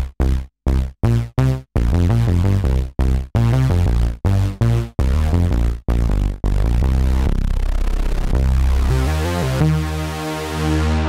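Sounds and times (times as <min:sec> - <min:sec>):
synthesizer notes with strong bass: 0:00.0 - 0:11.0.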